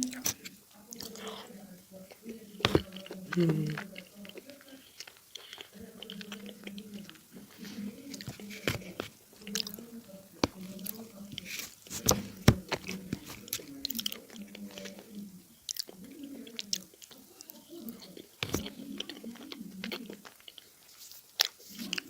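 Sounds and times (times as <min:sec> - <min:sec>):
dry clay crunching when chewed: 0:00.0 - 0:22.0.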